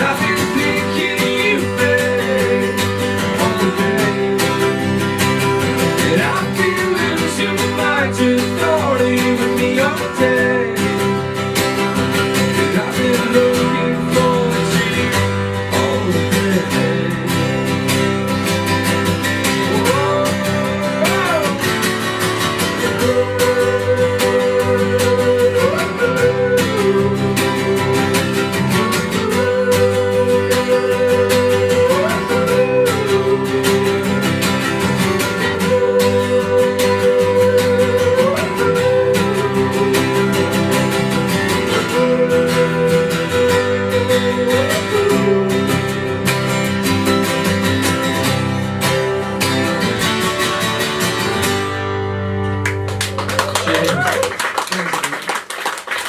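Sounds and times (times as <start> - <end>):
strummed acoustic guitar: 0.0 - 54.2
bass: 0.0 - 56.0.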